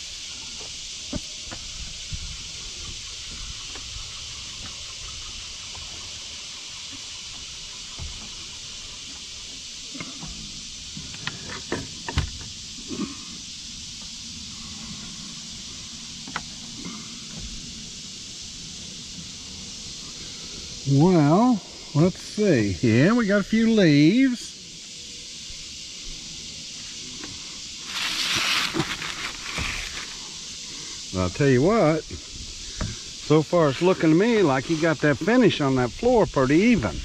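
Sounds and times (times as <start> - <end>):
steady high hiss: 0.0 - 37.0.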